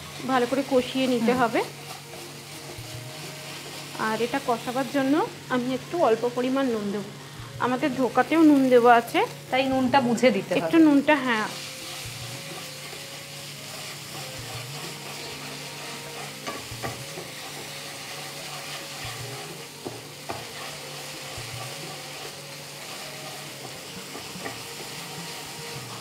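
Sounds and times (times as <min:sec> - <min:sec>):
wooden spatula scraping a pan: 0:00.0 - 0:07.1, 0:11.4 - 0:26.0
paste sizzling in oil: 0:00.0 - 0:26.0.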